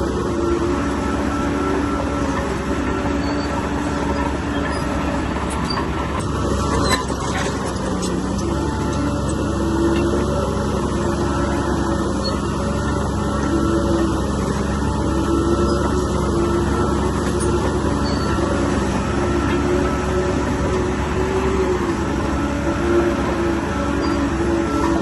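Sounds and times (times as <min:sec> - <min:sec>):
heavy diesel machinery running: 0:00.0 - 0:25.0.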